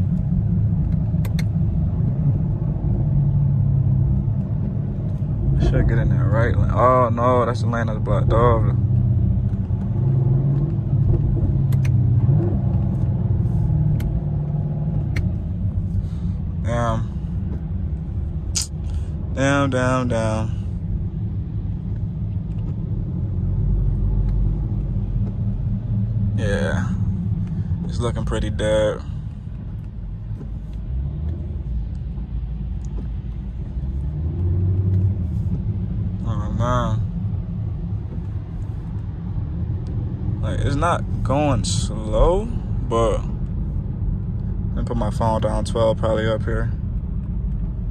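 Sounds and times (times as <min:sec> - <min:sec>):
car engine running low: 0:00.0 - 0:47.9.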